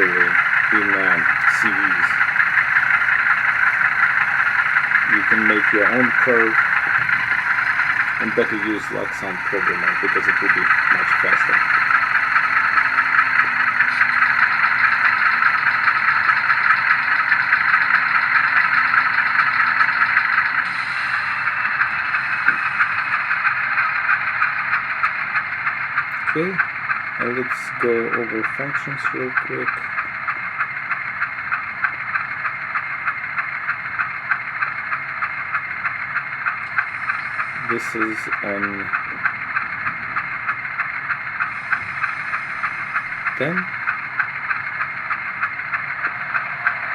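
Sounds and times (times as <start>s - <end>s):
model locomotive diesel engine sound: 0.0s - 46.9s.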